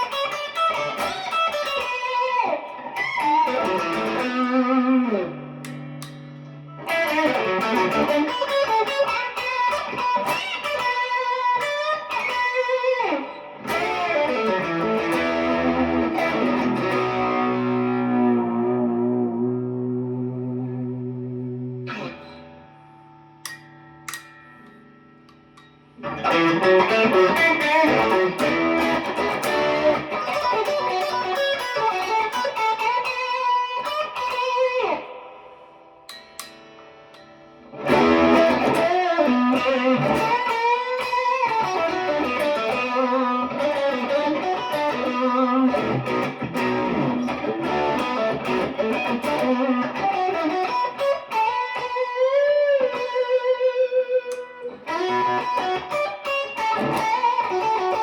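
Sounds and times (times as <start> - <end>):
electric guitar lead with bends: 0.0 - 58.0.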